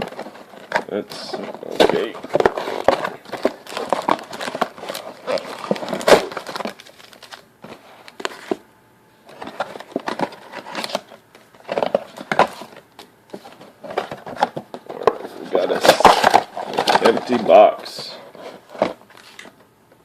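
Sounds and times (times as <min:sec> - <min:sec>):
cardboard box rustling: 0:00.0 - 0:08.6, 0:09.3 - 0:19.5
plastic wrap crinkling: 0:00.0 - 0:08.6, 0:09.3 - 0:19.6.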